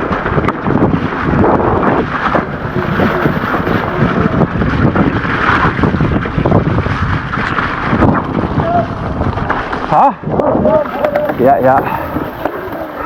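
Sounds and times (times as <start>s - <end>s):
bike knocking and rattling: 0.0s - 13.0s
wind rumbling on microphone: 0.0s - 13.0s.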